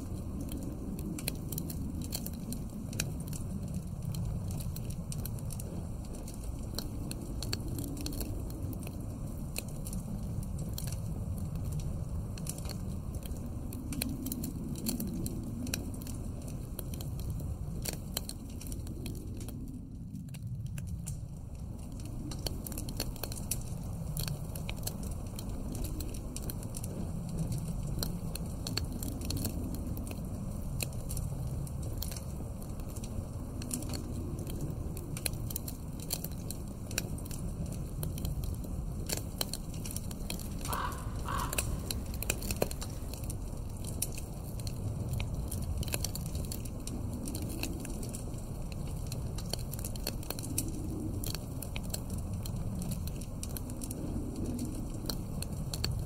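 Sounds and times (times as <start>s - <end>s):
low wind: 0.0s - 56.0s
wood fire crackling: 0.0s - 56.0s.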